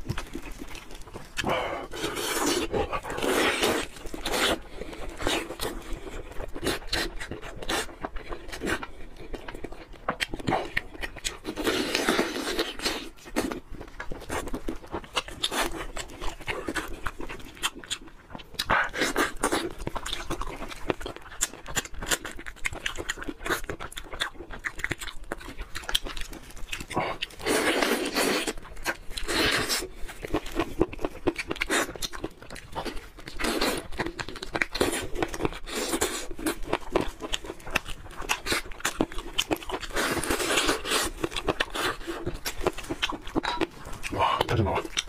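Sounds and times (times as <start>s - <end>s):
wet chewing and lip-smacking: 0.0s - 45.0s.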